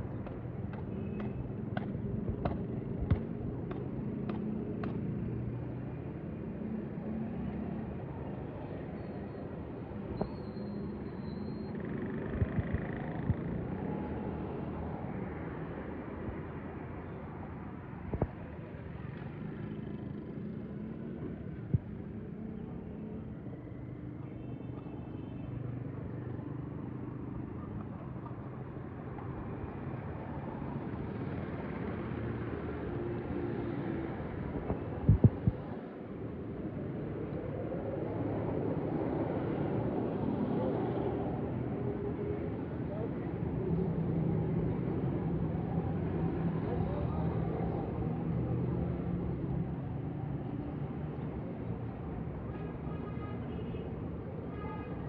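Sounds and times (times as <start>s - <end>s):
low rumble of street traffic: 0.0s - 55.0s.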